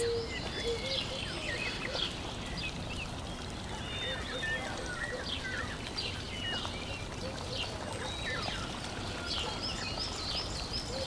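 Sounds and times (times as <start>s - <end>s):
birds chirping: 0.0s - 11.0s
running water rushing: 0.0s - 11.0s.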